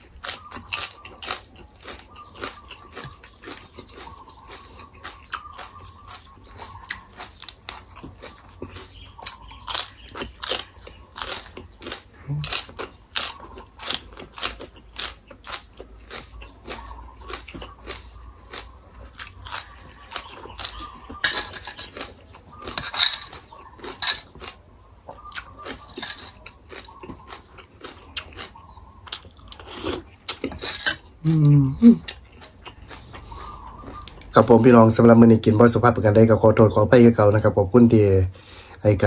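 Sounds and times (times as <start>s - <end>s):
chewing crisp crunchy food: 0.0s - 35.8s.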